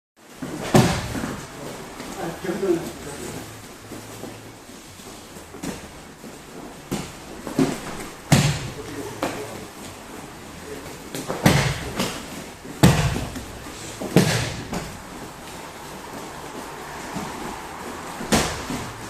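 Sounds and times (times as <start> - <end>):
thuds of bodies on mats: 0.3 - 19.0.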